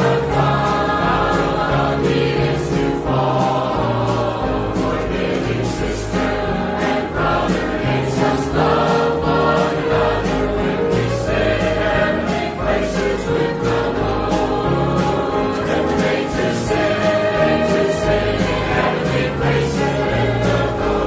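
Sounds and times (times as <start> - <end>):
choir singing a hymn: 0.0 - 21.0
instrumental accompaniment: 0.0 - 21.0.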